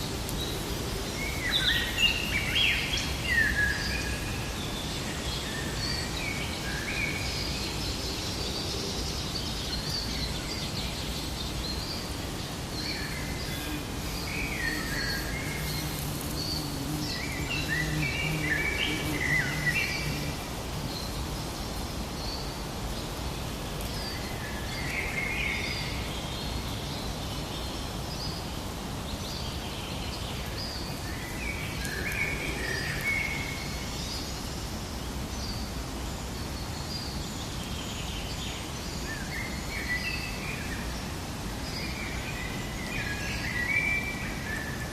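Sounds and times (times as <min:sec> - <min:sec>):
birds chirping and warbling: 0:00.0 - 0:44.9
steady background hiss: 0:00.0 - 0:44.9.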